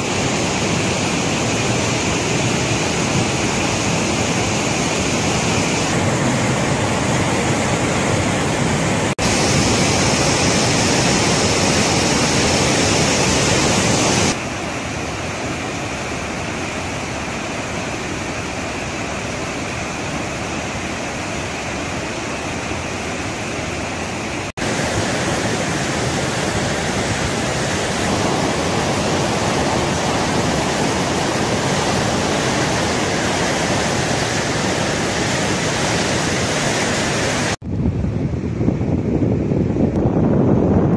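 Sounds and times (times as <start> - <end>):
river rushing: 0.0 - 37.6.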